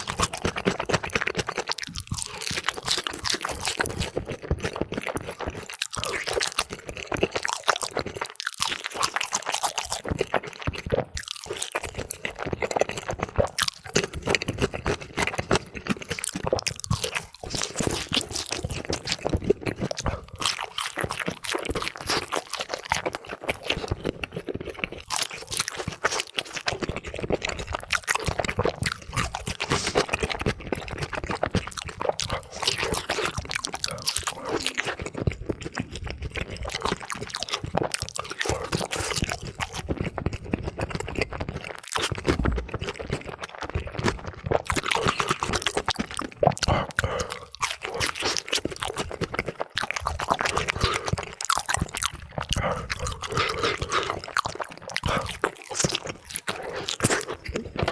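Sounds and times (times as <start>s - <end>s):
crunching and chewing fried chicken: 0.0s - 57.9s.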